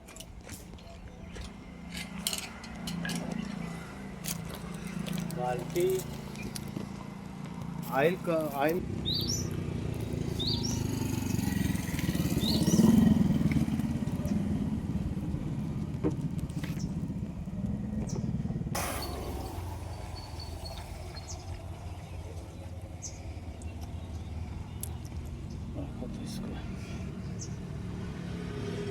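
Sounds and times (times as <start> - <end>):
diesel engine running: 0.5 - 28.9.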